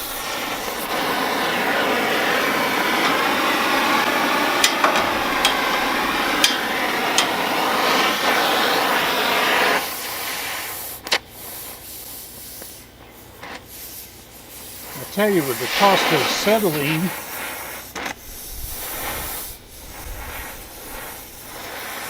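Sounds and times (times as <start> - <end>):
torch flame hissing: 0.0 - 22.0.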